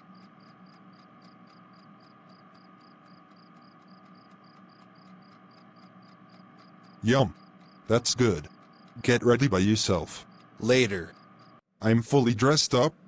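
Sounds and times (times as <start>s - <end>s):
faint cricket chirping: 0.0s - 11.6s
low steady hum: 0.0s - 13.0s.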